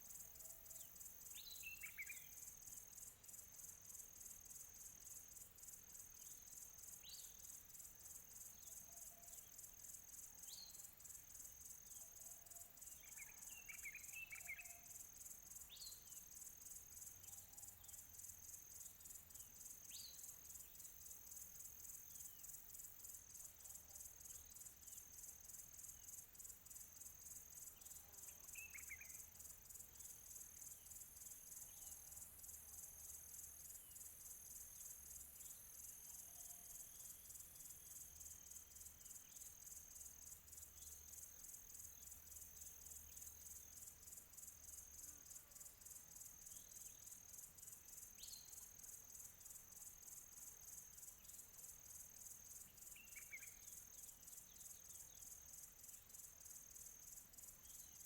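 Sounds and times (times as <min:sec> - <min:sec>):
faint crickets chirping: 0:00.0 - 0:58.0.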